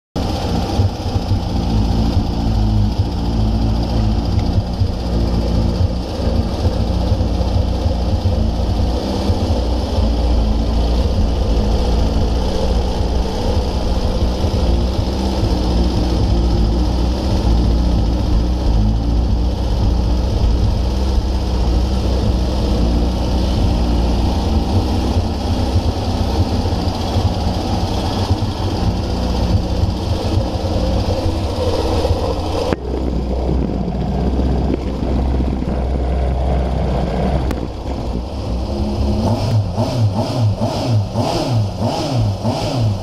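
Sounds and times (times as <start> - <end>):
aircraft engine running steadily: 0.2 - 43.0.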